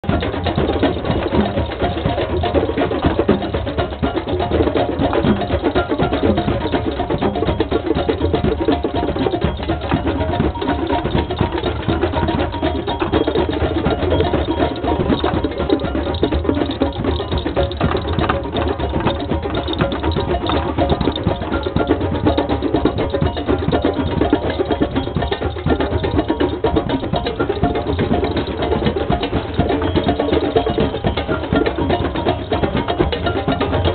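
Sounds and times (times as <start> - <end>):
hand drums playing fast rhythm: 0.0 - 33.9.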